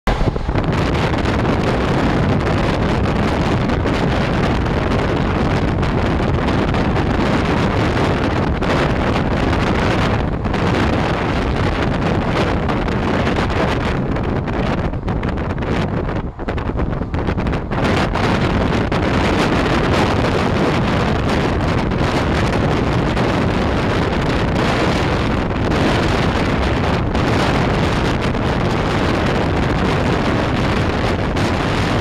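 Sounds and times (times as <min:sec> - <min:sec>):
train wheels rumbling on track: 0:00.1 - 0:32.0
wind buffeting microphone: 0:00.1 - 0:32.0.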